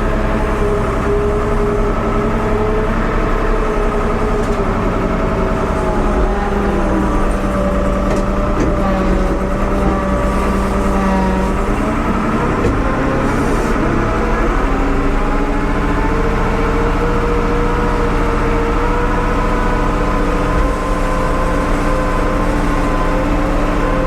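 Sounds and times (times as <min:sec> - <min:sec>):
backhoe engine running: 0:00.0 - 0:24.0.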